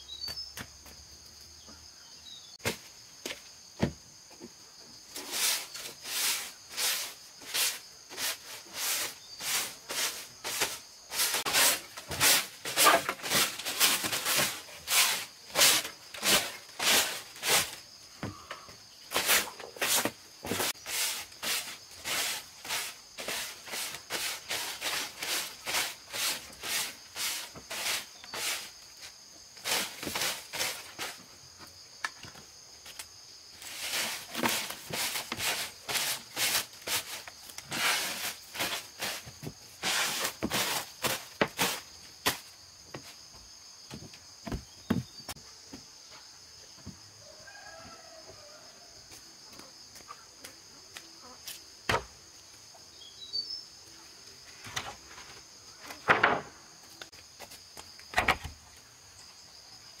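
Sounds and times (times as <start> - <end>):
insects chirring: 0.0 - 60.0.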